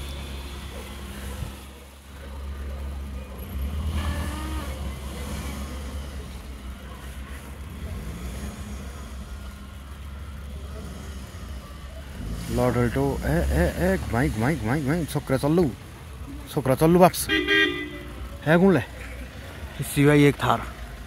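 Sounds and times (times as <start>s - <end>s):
car engine under throttle: 0.0s - 21.0s.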